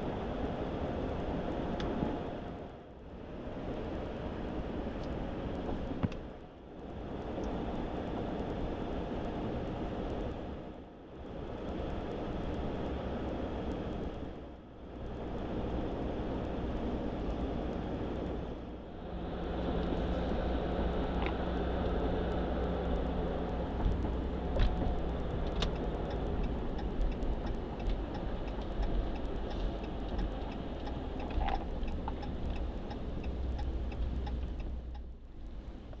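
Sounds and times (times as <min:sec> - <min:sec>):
road and engine noise: 0:00.0 - 0:36.0.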